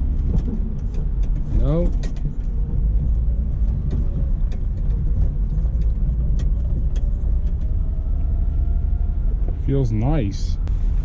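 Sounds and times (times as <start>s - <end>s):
engine and road noise rumble: 0.0s - 11.0s.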